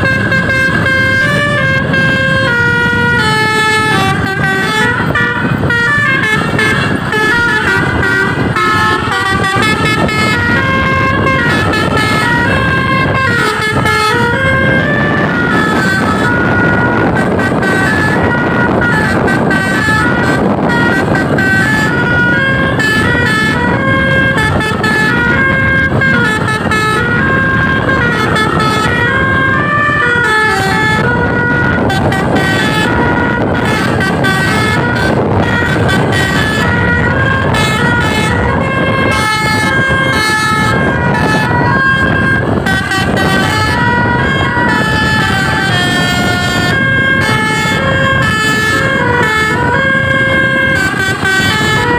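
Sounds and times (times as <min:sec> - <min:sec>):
bus air horn playing a tune: 0:00.0 - 0:51.9.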